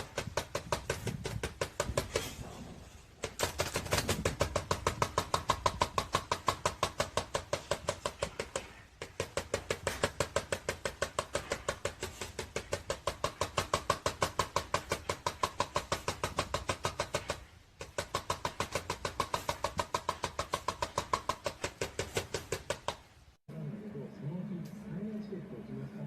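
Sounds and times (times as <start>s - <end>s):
rapid even knocking: 0.0s - 2.3s, 3.2s - 23.4s.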